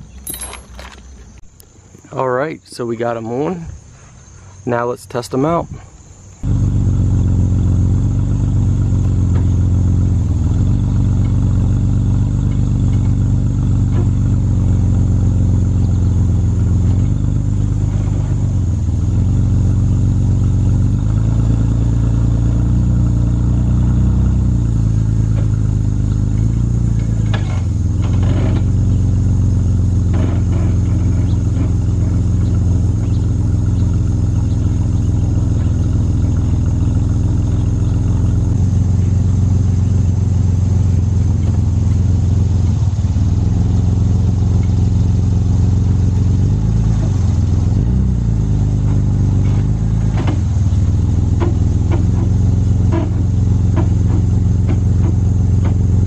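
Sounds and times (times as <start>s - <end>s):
car engine idling: 6.1s - 56.0s.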